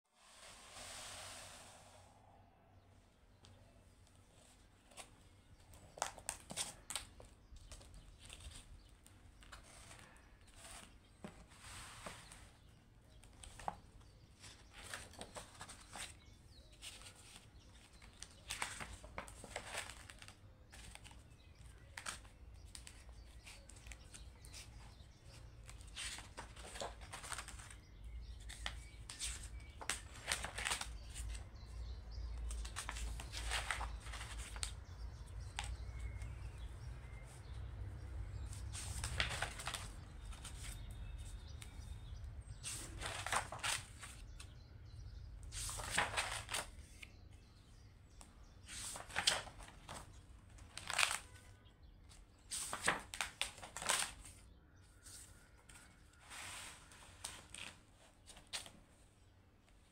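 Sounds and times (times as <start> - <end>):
paper pages rustling: 4.4 - 36.4, 38.2 - 44.6, 45.3 - 47.2, 48.2 - 51.5, 52.1 - 54.4, 55.0 - 58.8.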